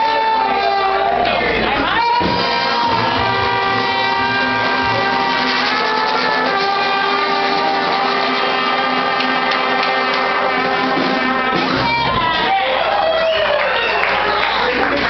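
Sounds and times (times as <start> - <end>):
jazz band playing: 0.0 - 13.0.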